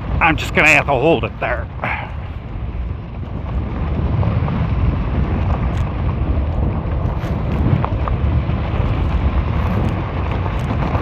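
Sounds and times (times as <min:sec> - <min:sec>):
tyre rumble on bumpy road: 0:00.0 - 0:11.0
wind over microphone: 0:00.0 - 0:11.0.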